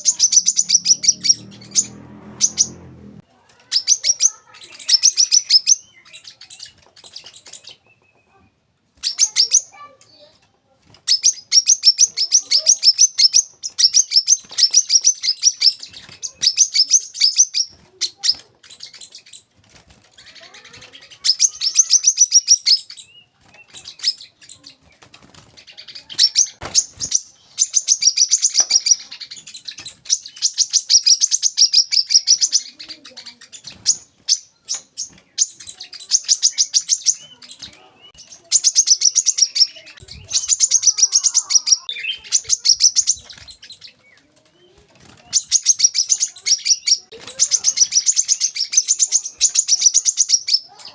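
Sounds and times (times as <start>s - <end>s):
bird twittering: 0.0s - 8.4s, 11.1s - 19.5s, 20.2s - 24.8s, 25.5s - 50.9s.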